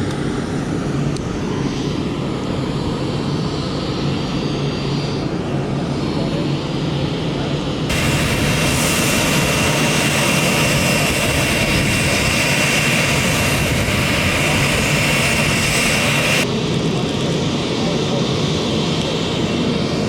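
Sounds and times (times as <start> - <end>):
jet engine high whine: 0.0 - 20.0.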